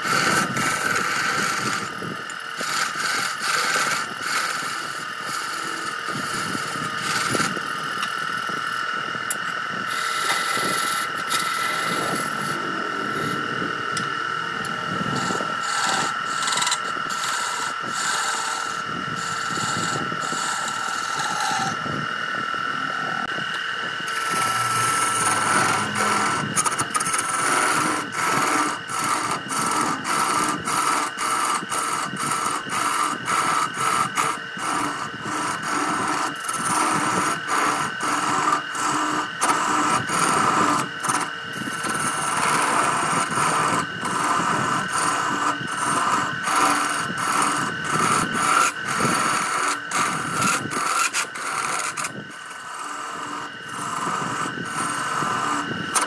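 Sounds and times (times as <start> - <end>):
chisel scraping spinning wood: 0.0 - 56.0
wood lathe whining: 0.0 - 56.0.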